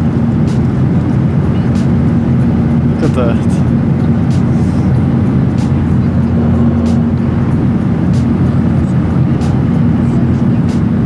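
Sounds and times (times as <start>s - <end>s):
airplane cabin jet engine rumble: 0.0s - 11.0s.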